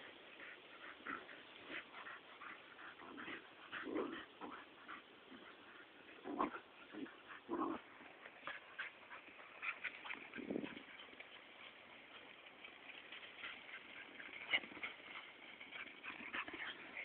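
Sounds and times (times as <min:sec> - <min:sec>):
dogs growling and yipping: 0:00.4 - 0:11.0, 0:12.9 - 0:17.0.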